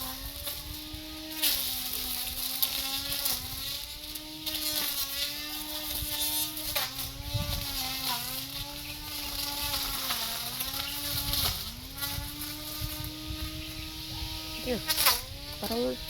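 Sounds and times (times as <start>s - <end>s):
lawn mower engine buzzing: 0.0s - 16.0s.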